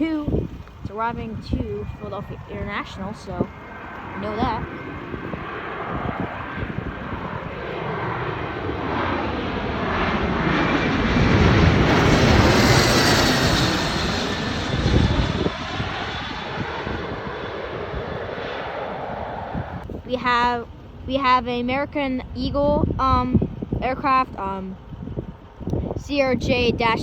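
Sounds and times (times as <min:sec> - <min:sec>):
jet passing overhead: 0:00.0 - 0:27.0.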